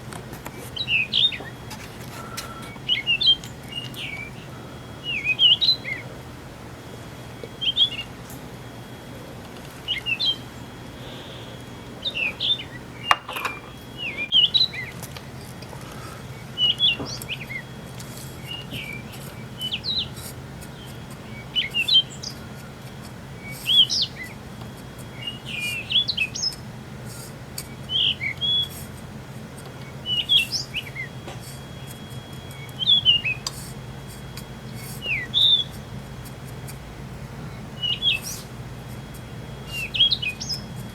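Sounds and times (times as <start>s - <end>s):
faint low hum: 0.0s - 40.9s
bird chirping: 0.5s - 6.2s, 7.1s - 9.0s, 9.8s - 22.6s, 23.4s - 24.4s, 25.0s - 28.8s, 29.8s - 33.6s, 34.2s - 35.9s, 37.5s - 40.9s.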